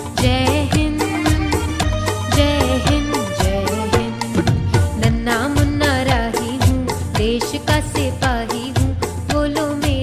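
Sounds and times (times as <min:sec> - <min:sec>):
steady drum beat: 0:00.0 - 0:10.0
person singing: 0:00.2 - 0:10.0.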